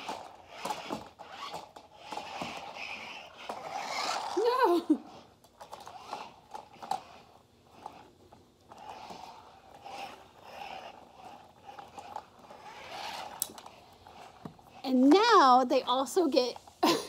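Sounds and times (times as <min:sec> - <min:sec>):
toy car electric motor whirring: 0:00.0 - 0:16.7.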